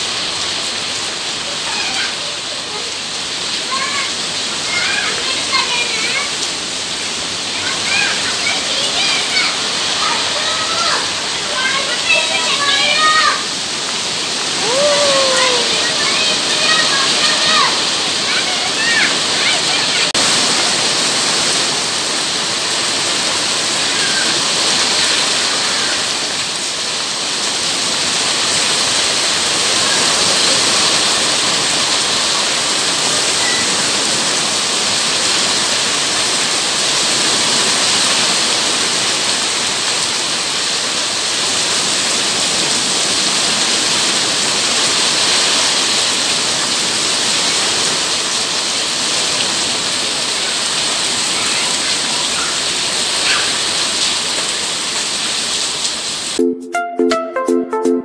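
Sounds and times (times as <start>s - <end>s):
heavy rain on wet paving: 0.0s - 56.4s.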